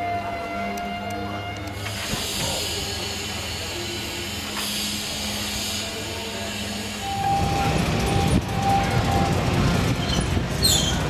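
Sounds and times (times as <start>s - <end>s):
electric trolley car rumbling: 0.0s - 11.0s.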